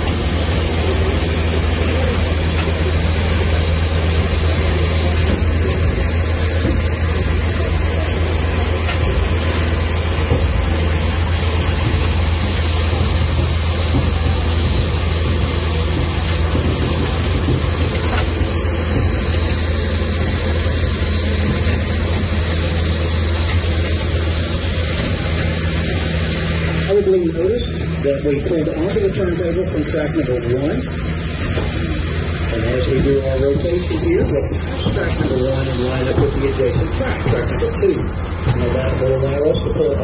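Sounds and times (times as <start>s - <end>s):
railroad turntable rumble: 0.0s - 40.0s.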